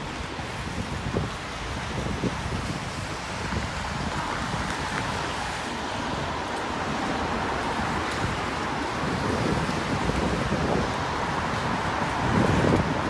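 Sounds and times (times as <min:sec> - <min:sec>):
road traffic: 0:00.0 - 0:13.0
wind buffeting microphone: 0:00.0 - 0:13.0.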